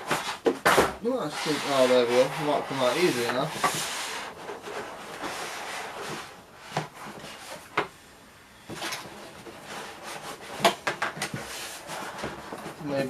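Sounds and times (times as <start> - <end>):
cardboard scraping and rubbing: 0.0 - 7.7, 8.8 - 13.0.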